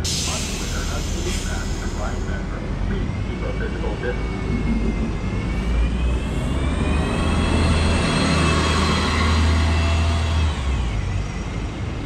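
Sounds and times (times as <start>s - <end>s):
bus engine rumbling: 0.0s - 12.0s
whine climbing in pitch: 1.5s - 12.0s.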